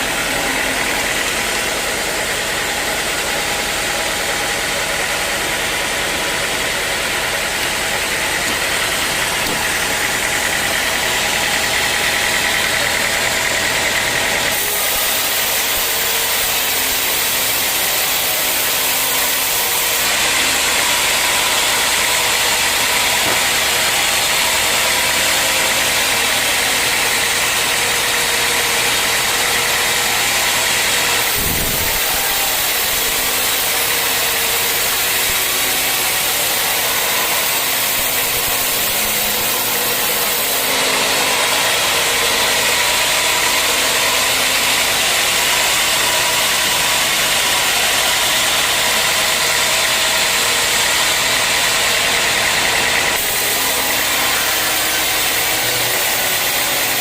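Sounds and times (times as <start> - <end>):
sawmill machine and blade: 0.0 - 57.0.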